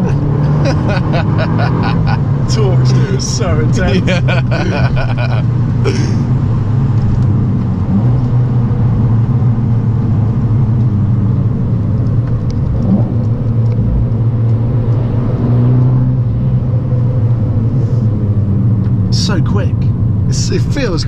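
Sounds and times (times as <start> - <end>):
car engine droning: 0.0 - 21.0
road noise: 0.0 - 21.0.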